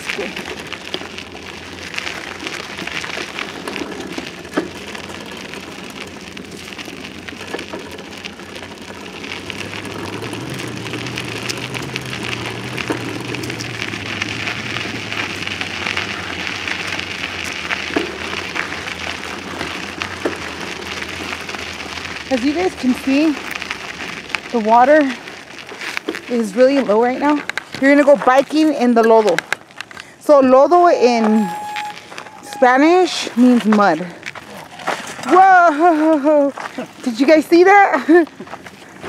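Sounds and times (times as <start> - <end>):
bicycle tyres rolling on dirt: 0.0 - 39.0.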